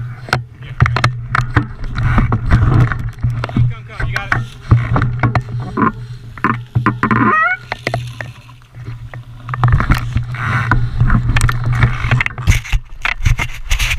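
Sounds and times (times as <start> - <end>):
bike rattling over rough trail: 0.0 - 13.9.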